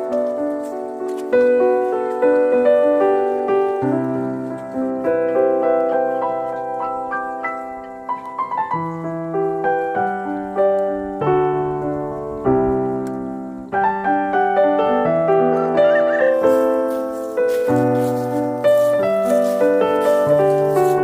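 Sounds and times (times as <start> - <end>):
slow solo piano melody: 0.0 - 21.0.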